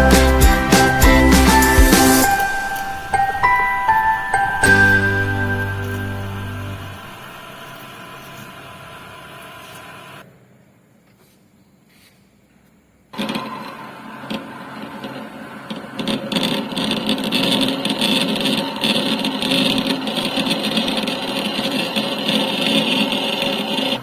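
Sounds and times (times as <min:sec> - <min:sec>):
metal lathe running: 0:00.0 - 0:10.2, 0:13.2 - 0:24.0.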